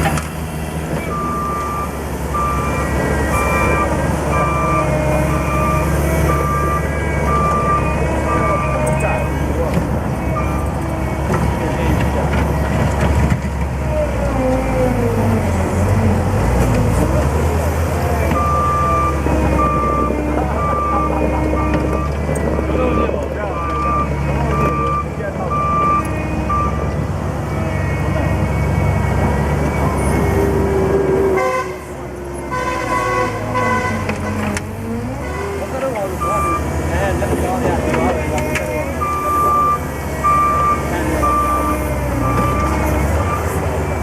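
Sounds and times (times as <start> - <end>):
loader engine droning: 0.0 - 44.0.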